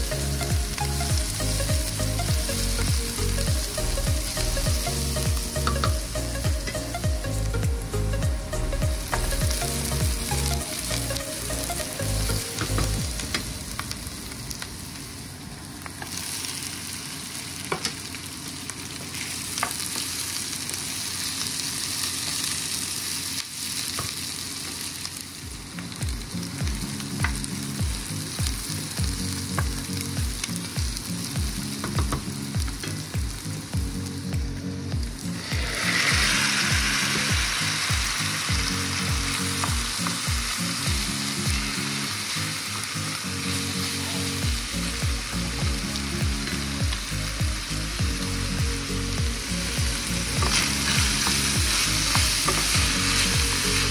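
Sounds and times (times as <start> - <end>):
food sizzling in oil: 0.0 - 53.9.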